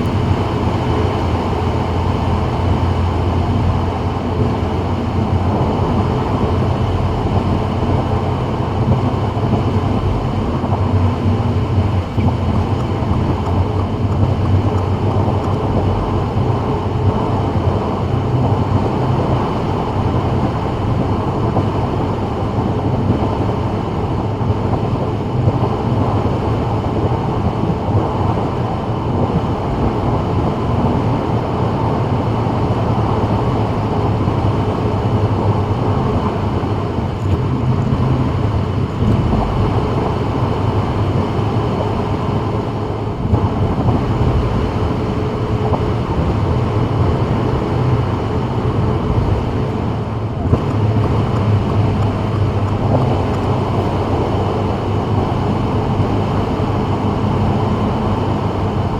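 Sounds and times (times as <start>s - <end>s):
car cruising on wet road: 0.0s - 58.9s.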